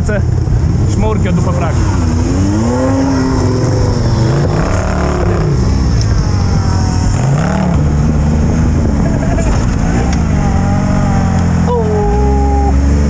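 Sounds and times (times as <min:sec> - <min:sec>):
engine revving hard: 0:01.2 - 0:13.0.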